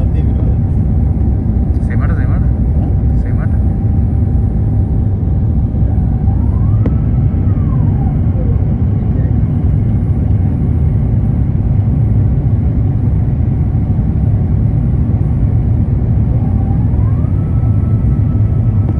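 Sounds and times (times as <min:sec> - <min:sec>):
jet engines and rushing air: 0:00.0 - 0:18.9.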